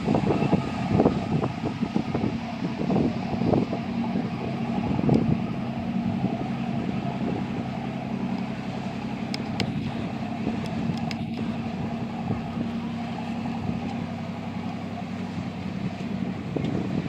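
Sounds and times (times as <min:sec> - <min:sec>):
boat diesel engine humming: 0:00.0 - 0:17.0
wind buffeting microphone: 0:00.0 - 0:17.0.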